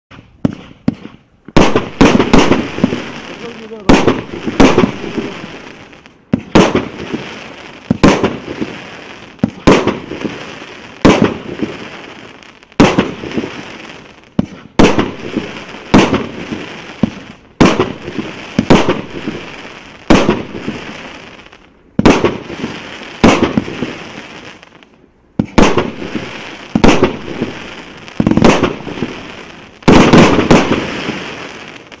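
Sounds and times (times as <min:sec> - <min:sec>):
firework bangs: 0:00.1 - 0:32.0
hissing crackle of fireworks: 0:00.1 - 0:32.0.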